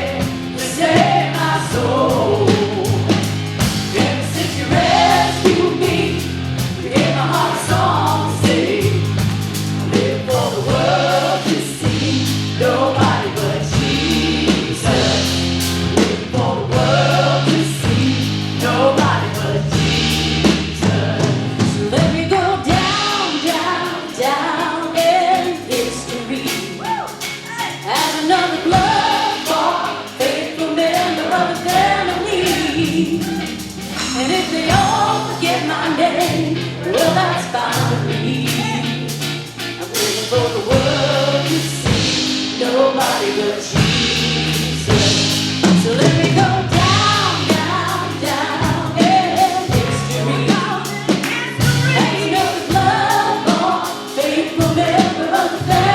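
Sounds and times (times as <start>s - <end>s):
bass guitar: 0.0s - 55.9s
drum kit: 0.0s - 55.9s
singers singing praise song: 0.0s - 55.9s.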